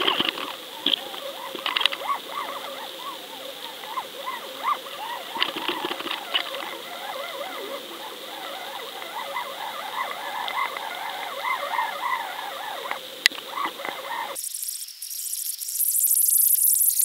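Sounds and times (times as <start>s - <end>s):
steady hum: 0.0s - 14.5s
underwater chirps and crackles: 0.0s - 17.0s.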